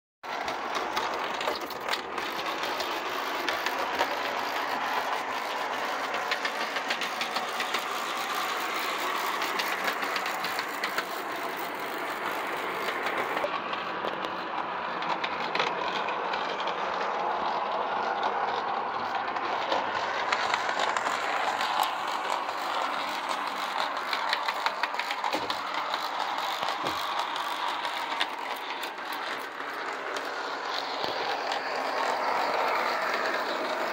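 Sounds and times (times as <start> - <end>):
wheels clicking on rails: 0.2 - 33.9
whirr of motor and gears: 0.3 - 33.9.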